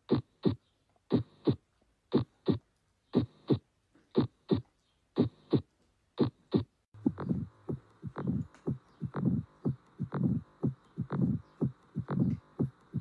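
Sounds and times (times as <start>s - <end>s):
heartbeat: 0.0s - 2.6s, 4.2s - 13.0s.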